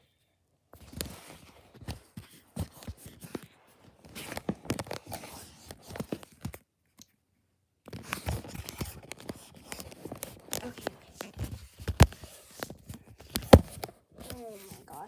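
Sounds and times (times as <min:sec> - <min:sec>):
clicks taps and rustles: 0:00.8 - 0:07.1, 0:07.8 - 0:15.0.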